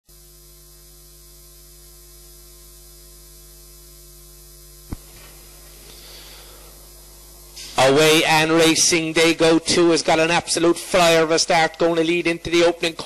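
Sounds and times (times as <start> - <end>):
electrical mains hum: 0.1 - 13.0
static: 1.3 - 13.0.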